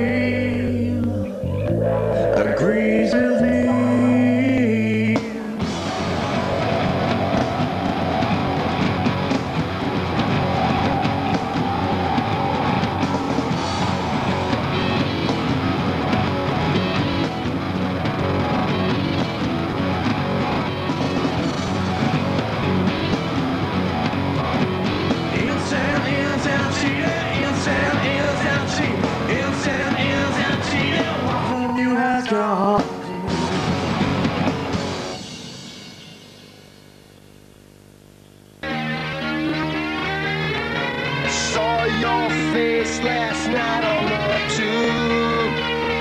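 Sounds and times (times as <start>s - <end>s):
rock music with singing: 0.0s - 36.4s, 38.6s - 46.0s.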